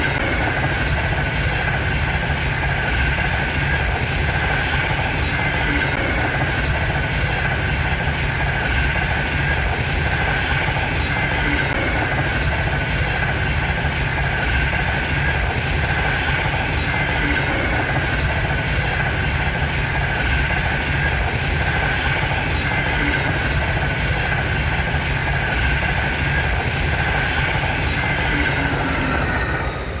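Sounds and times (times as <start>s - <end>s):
high-speed train rumble: 0.0s - 30.0s.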